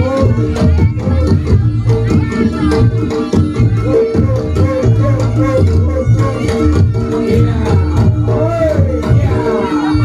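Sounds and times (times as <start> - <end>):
gamelan music: 0.0 - 10.0
steady drumming: 0.0 - 10.0.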